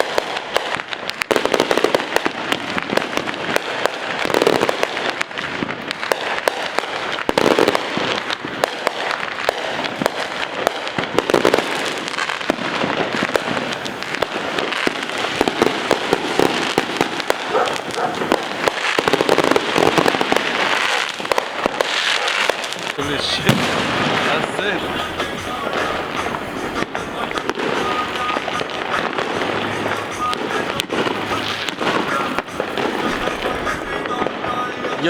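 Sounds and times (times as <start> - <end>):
fireworks crackling and banging: 0.0 - 35.0.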